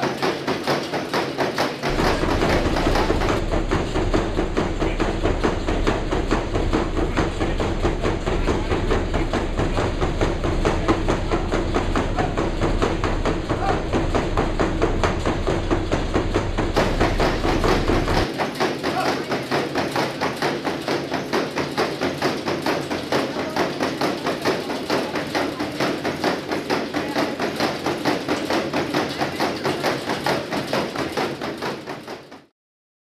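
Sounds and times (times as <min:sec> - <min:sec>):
horse hooves on treadmill: 0:00.0 - 0:32.5.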